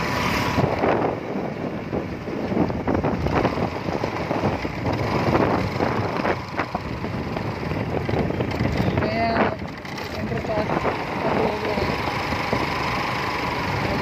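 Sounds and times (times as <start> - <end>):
motor vehicle running: 0.0 - 14.0
wind buffeting microphone: 0.0 - 14.0.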